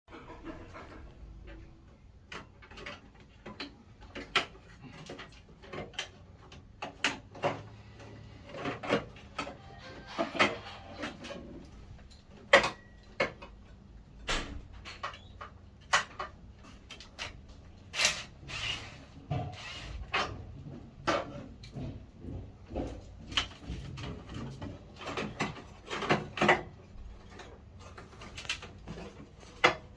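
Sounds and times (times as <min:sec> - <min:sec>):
hard parts clicking and knocking: 0:00.1 - 0:29.9.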